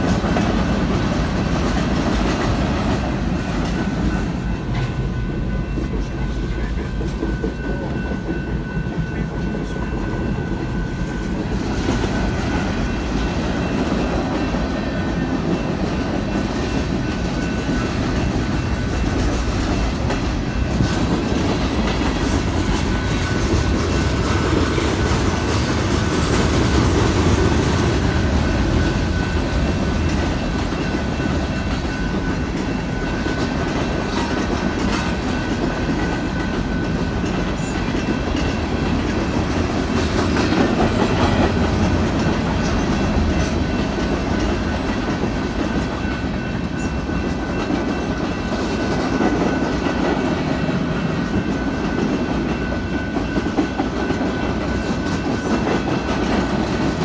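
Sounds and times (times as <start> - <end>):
freight train wheels rumbling: 0.0 - 57.0
clickety-clack of passing cars: 11.3 - 57.0.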